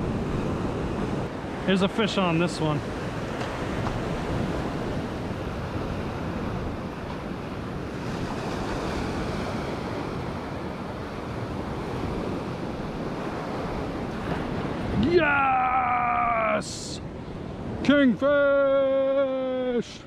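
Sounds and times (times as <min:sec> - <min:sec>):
ocean surf breaking on sand: 0:00.0 - 0:20.0.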